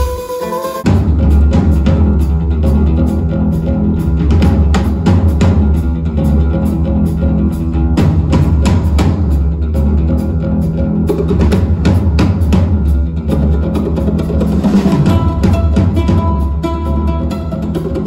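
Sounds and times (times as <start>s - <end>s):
drum kit steady beat: 0.0s - 18.0s
rock music: 0.0s - 18.0s.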